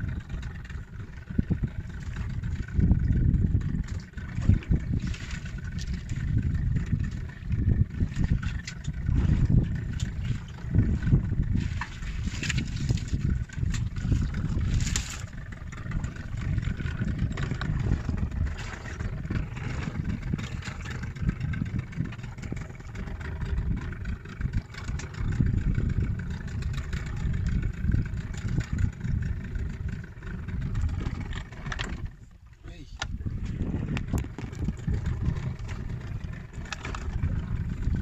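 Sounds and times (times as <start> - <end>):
boat motor running: 0.0 - 38.0
wind rumbling on microphone: 0.0 - 38.0.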